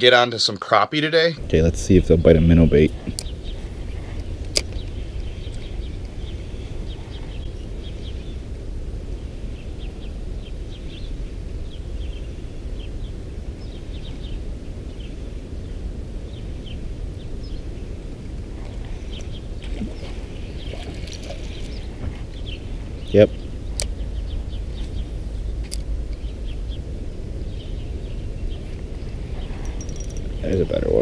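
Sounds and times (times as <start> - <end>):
low outdoor rumble: 1.3 - 31.0
small birds chirping: 1.3 - 31.0.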